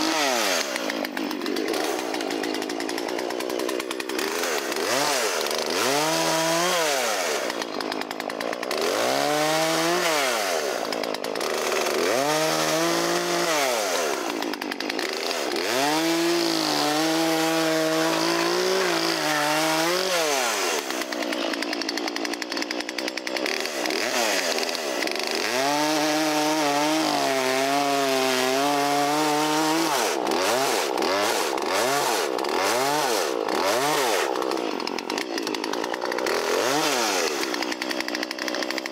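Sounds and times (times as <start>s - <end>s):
chainsaw cutting firewood: 0.0s - 38.9s.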